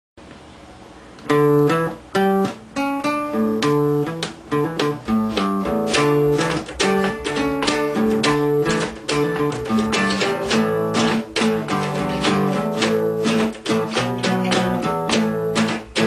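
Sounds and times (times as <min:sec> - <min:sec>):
acoustic guitars playing: 0:01.2 - 0:16.0.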